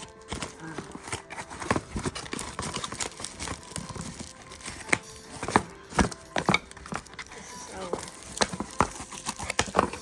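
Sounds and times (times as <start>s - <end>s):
packaging rustling: 0.0s - 10.0s
wooden utensils clacking: 0.3s - 10.0s.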